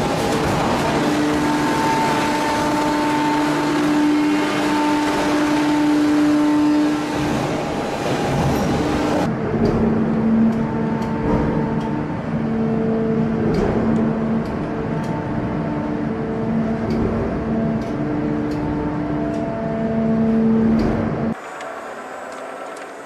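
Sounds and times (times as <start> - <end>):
industrial machinery running: 0.0 - 23.0
steady machine whine: 0.0 - 23.0.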